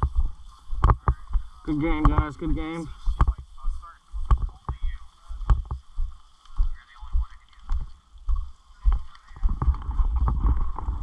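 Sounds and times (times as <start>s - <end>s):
footsteps through dry grass: 0.0s - 11.0s.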